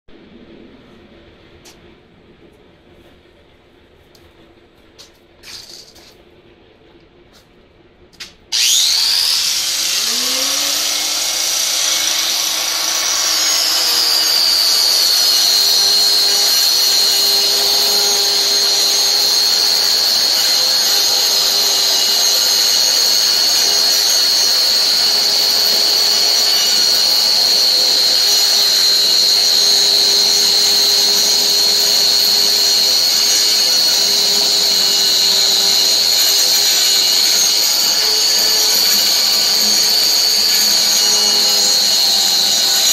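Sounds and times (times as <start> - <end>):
power tool whining: 8.5 - 42.9.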